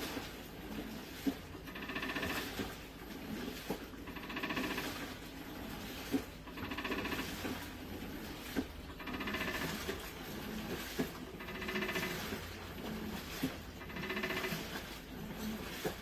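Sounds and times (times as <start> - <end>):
washing machine agitating: 0.0 - 16.0.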